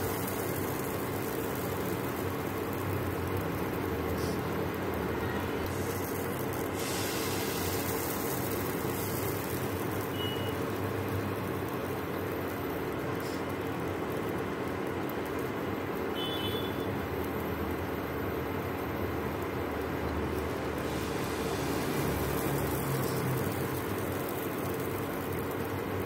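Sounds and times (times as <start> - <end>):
cooling fan humming: 0.0 - 26.0.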